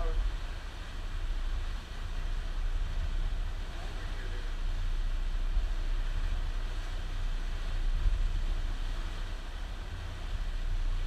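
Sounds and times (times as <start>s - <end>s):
motorboat engine rumble: 0.0s - 11.0s
wind and water hiss: 0.0s - 11.0s.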